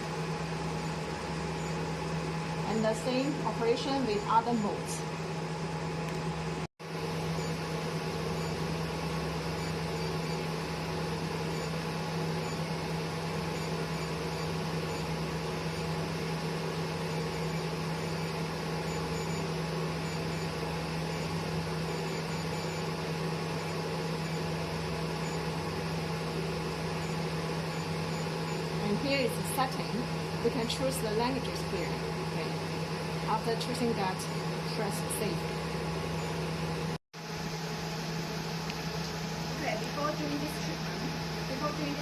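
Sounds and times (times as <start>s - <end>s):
machine fan hum: 0.0s - 42.0s.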